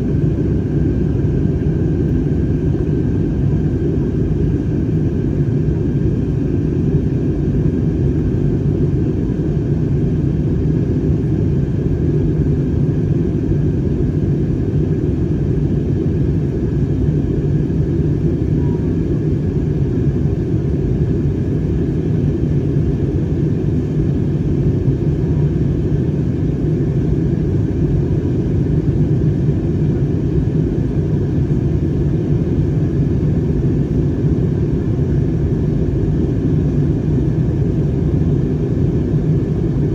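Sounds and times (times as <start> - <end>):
jet cabin engine roar: 0.0 - 39.9.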